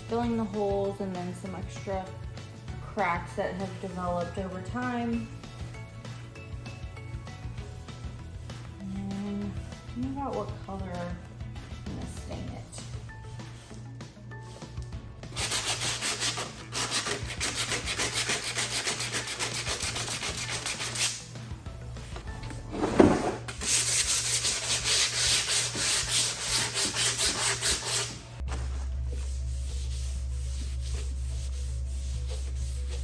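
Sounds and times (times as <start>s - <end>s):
hand-sanding wood: 3.2s - 21.3s, 22.8s - 28.2s, 29.1s - 33.0s.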